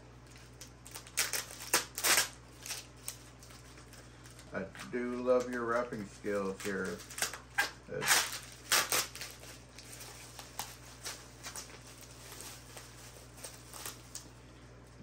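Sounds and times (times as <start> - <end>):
bubble wrap rustling and crinkling: 0.0 - 15.0.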